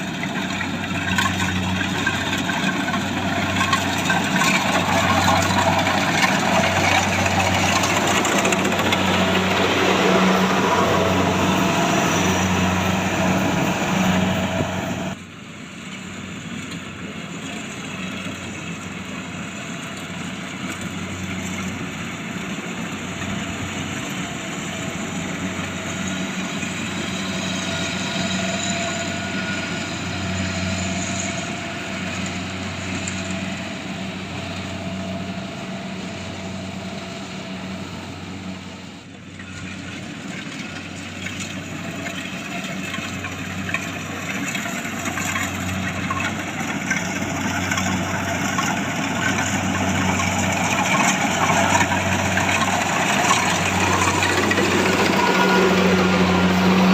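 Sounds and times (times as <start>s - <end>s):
harvester engine humming: 0.0s - 56.9s.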